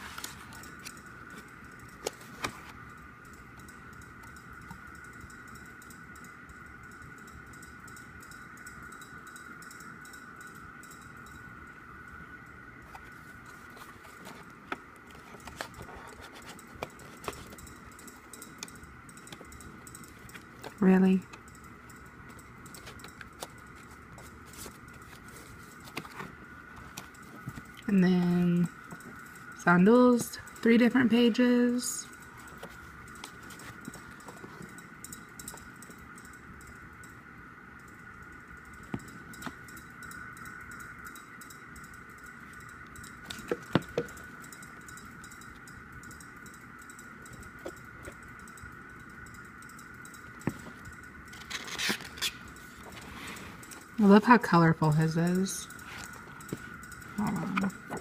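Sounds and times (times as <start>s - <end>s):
faint high-pitched hum: 0.0s - 58.0s
faint high-pitched whine: 0.0s - 58.0s.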